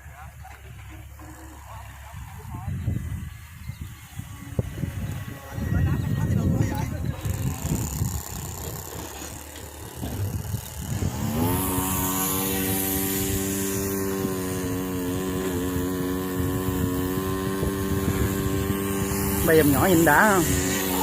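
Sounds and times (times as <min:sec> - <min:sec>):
model plane motor whining: 0:00.5 - 0:21.0.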